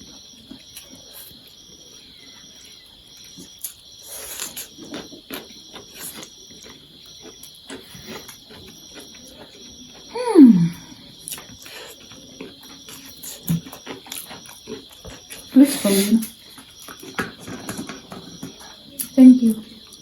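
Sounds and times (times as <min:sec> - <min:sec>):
noodles being chewed: 0:02.4 - 0:10.1, 0:11.0 - 0:20.0.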